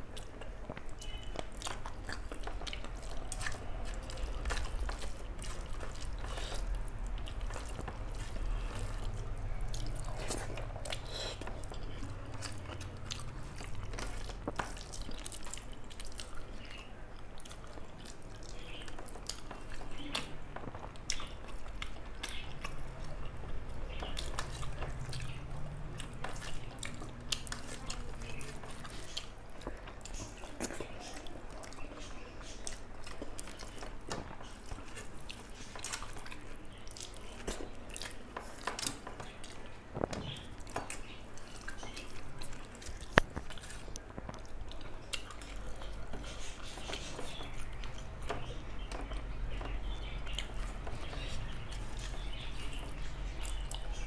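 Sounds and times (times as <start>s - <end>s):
person chewing wetly: 0.0s - 54.0s.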